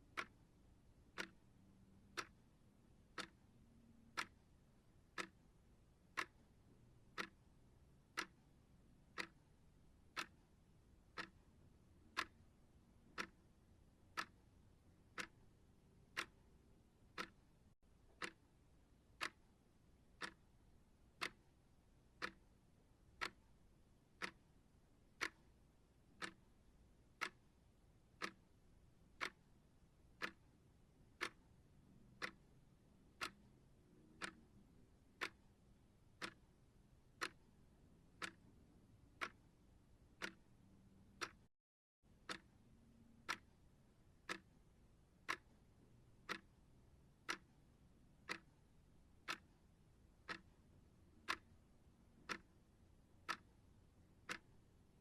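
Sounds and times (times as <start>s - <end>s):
clock ticking: 0.0s - 41.5s, 42.1s - 55.0s.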